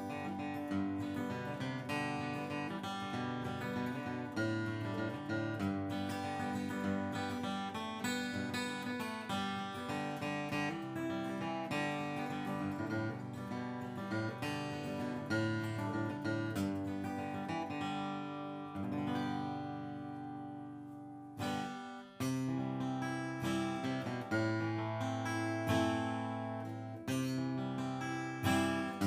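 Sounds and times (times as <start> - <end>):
acoustic guitar flatpicking: 0.0 - 29.0.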